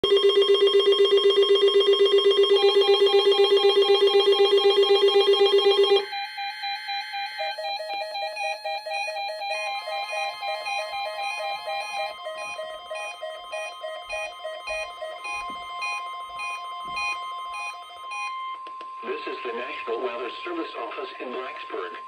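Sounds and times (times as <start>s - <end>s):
rapidly pulsing low alarm tone: 0.0s - 22.0s.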